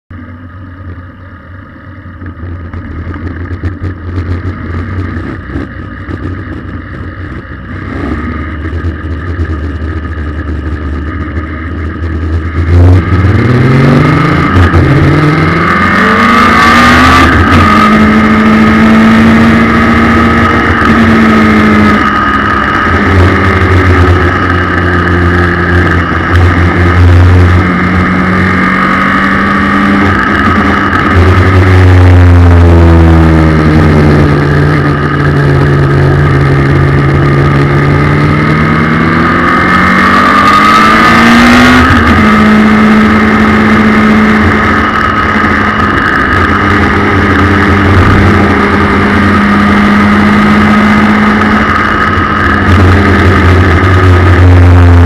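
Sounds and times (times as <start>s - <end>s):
race car engine revving: 2.2s - 55.0s.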